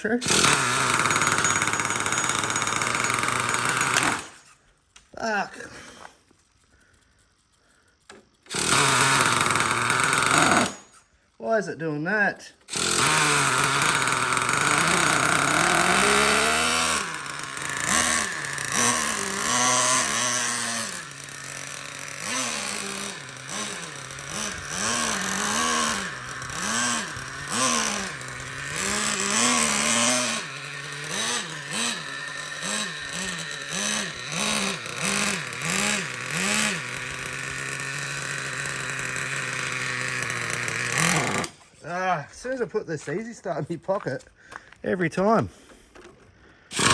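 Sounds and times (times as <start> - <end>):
rc truck engine revving: 0.0 - 4.8, 5.7 - 11.1, 12.6 - 42.0, 46.0 - 46.9.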